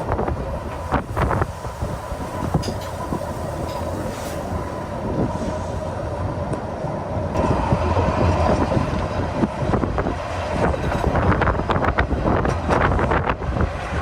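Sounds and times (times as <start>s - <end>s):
rail clicks: 0.0s - 14.0s
train rumbling on rails: 0.0s - 14.0s.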